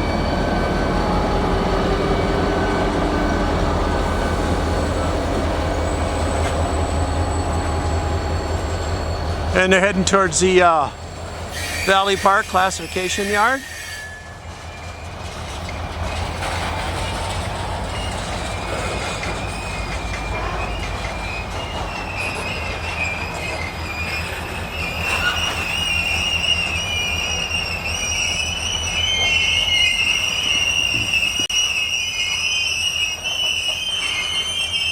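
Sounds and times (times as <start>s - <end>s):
freight cars rolling past: 0.0s - 31.9s
wheels squealing on rail: 0.0s - 34.9s.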